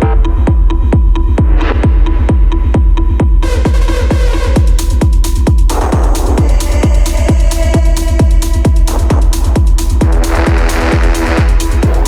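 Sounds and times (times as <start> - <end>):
kick drum: 0.0 - 12.0
techno music: 0.0 - 12.0.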